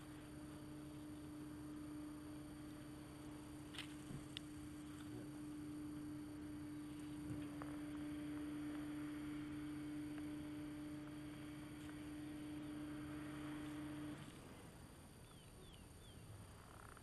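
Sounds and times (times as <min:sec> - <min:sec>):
metal detector low tone: 0:00.0 - 0:14.6.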